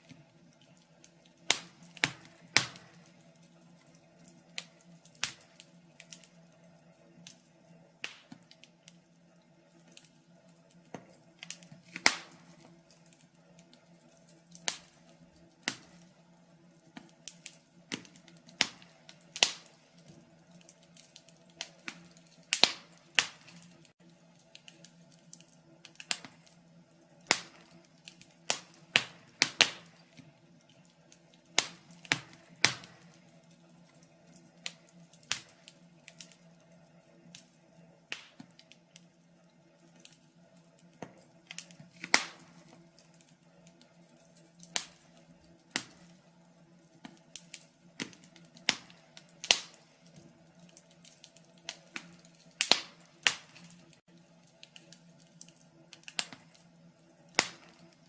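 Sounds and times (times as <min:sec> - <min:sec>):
log fire crackling: 0:00.0 - 0:58.0
low steady hum: 0:00.0 - 0:58.0.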